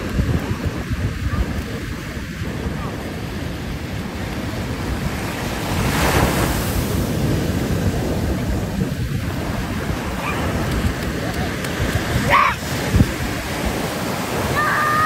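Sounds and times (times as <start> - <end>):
big wave crashing: 0.0 - 15.0
surf breaking over rocks: 0.0 - 15.0
wind buffeting microphone: 0.0 - 15.0.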